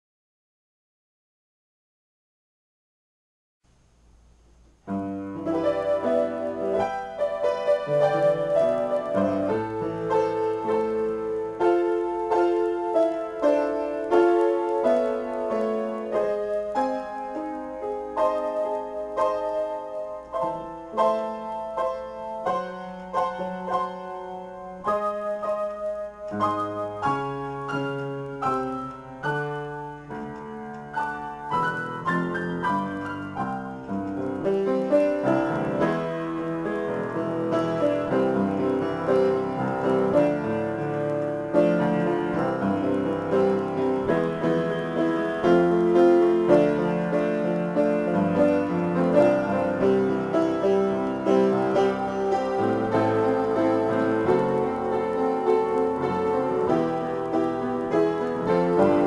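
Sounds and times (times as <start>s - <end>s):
solo piano playing: 4.8s - 59.0s.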